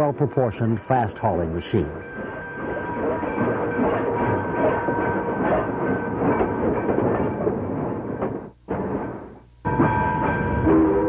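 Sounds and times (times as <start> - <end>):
steam locomotive running past: 0.0 - 11.0.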